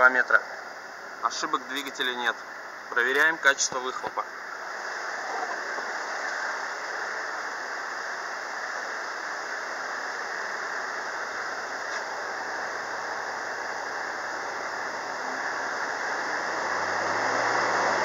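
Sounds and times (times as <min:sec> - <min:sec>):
diesel exhaust rushing: 0:01.3 - 0:18.0.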